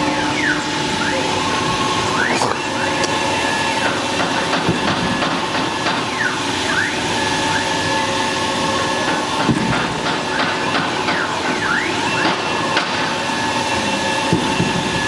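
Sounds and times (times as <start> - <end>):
drive motors whining: 0.0 - 15.0.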